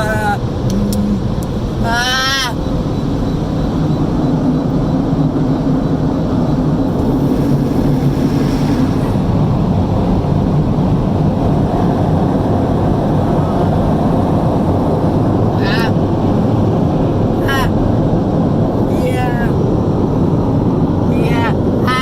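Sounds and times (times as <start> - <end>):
low hum: 0.0 - 18.8
car wash rushing noise: 0.0 - 21.9.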